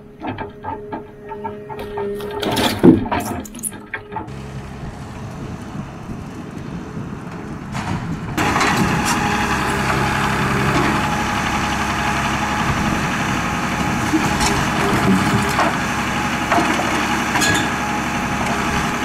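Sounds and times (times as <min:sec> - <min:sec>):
diesel engine running: 0:00.0 - 0:19.0
hydraulic crane lifting logs: 0:00.0 - 0:19.0.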